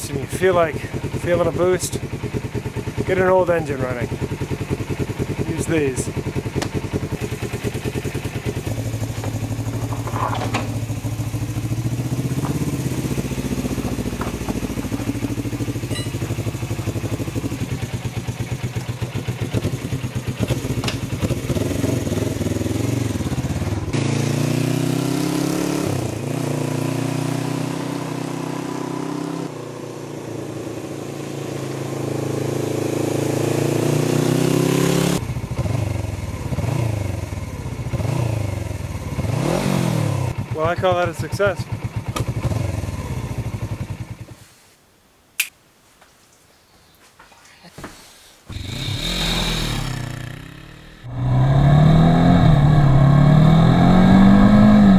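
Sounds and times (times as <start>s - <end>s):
motorcycle engine revving: 0.0s - 44.4s, 48.5s - 54.9s.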